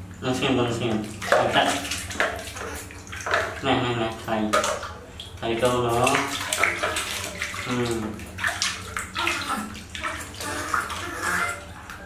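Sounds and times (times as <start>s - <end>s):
water splashing in a plastic basin: 0.0s - 12.0s.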